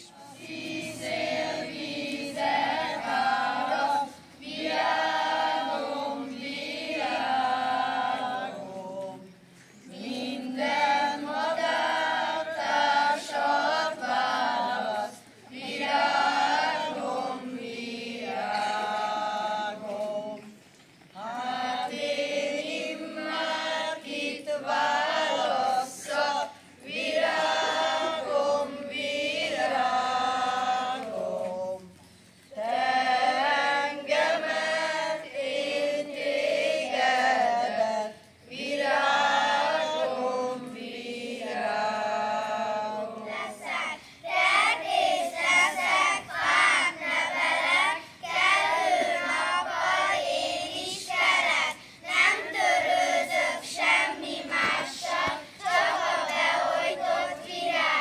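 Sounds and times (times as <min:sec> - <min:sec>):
children and woman singing: 0:00.0 - 0:20.6, 0:21.2 - 0:58.0.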